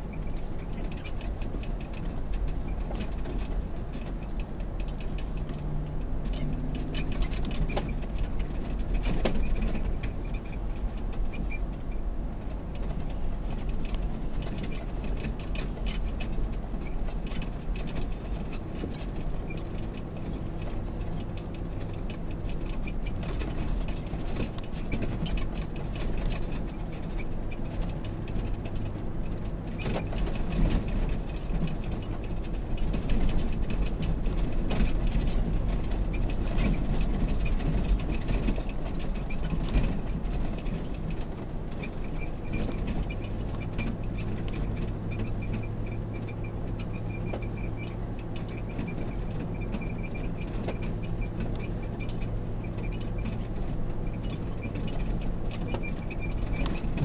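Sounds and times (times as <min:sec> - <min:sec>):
cabin rattles and clicks: 0:00.0 - 0:57.0
engine low drone: 0:00.0 - 0:57.0.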